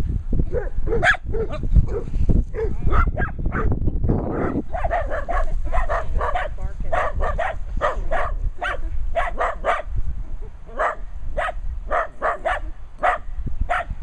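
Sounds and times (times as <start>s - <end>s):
small dog barking: 0.5s - 3.7s, 4.3s - 9.9s, 10.7s - 13.9s.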